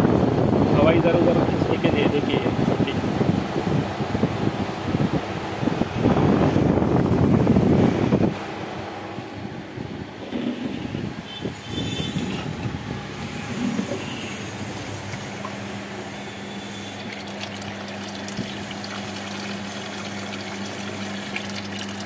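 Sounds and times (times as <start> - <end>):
air cooler motor hum: 0.0 - 22.0.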